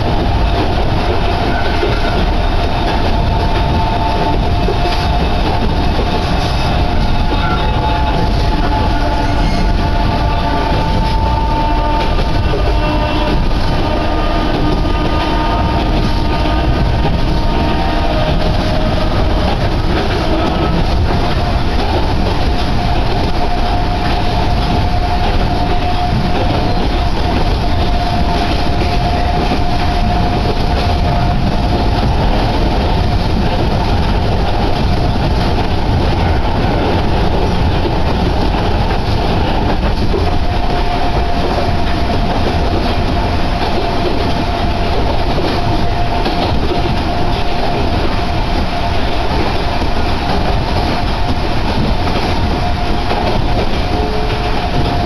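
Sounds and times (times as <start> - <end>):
train drive whine: 0.0 - 55.0
train running noise: 0.0 - 55.0.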